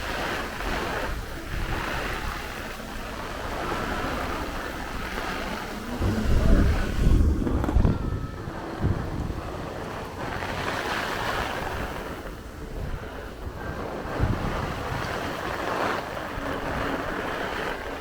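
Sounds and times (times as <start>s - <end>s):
gusty storm wind: 0.0s - 18.0s
heavy rain: 0.0s - 18.0s
wind buffeting microphone: 0.0s - 18.0s.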